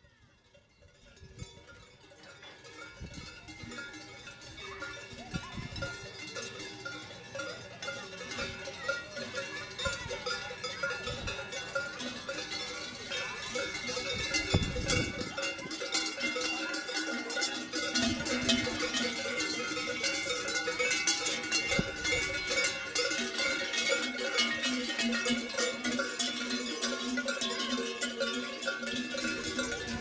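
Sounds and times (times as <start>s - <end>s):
cowbells ringing: 0.0s - 30.0s.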